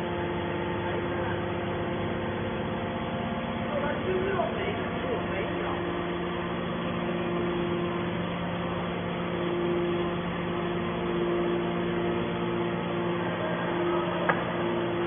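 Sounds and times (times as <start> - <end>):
high whine: 0.0 - 15.0
hydraulic power unit humming: 0.0 - 15.0.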